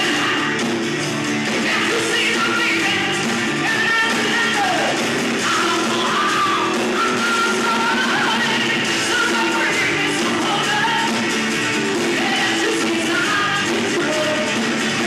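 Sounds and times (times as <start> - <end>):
live rock band playing: 0.0 - 15.0
strained lead vocal: 0.0 - 15.0.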